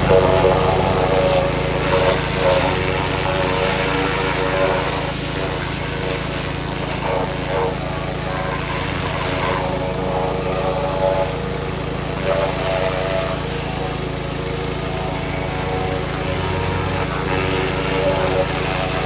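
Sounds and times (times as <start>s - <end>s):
pressure washer spray hissing: 0.0s - 19.0s.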